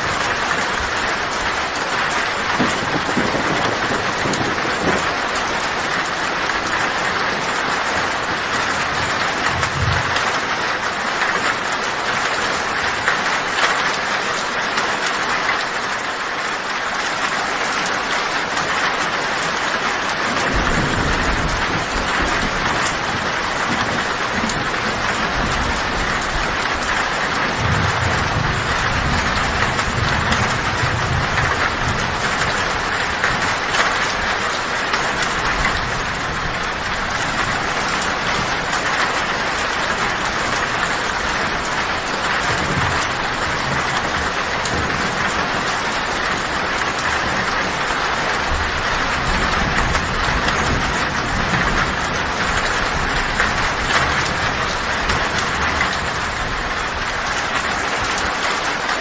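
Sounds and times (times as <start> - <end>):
low thunder rumbles: 0.0 - 10.8, 20.3 - 57.1
heavy rain on a tin roof: 0.0 - 59.0.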